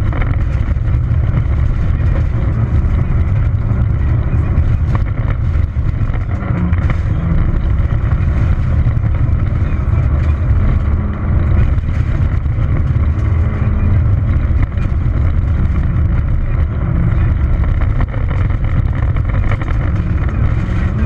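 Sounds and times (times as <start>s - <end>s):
car engine running hard: 0.0s - 21.0s
gravel clicks: 0.0s - 21.0s
tyre and road rumble: 0.0s - 21.0s.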